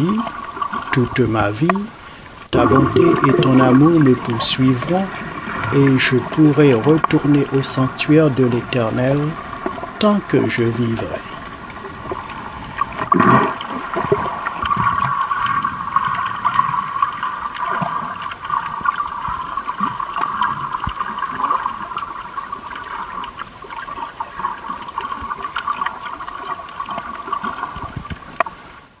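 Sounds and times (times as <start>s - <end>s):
muffled underwater water sound: 0.0s - 29.0s.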